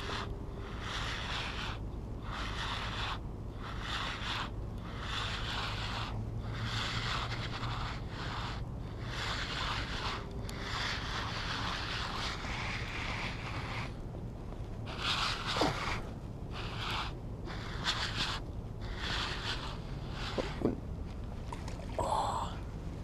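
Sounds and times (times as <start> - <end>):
clothing rubbing against camera: 0.0 - 21.8
steady low rumble: 0.0 - 23.0.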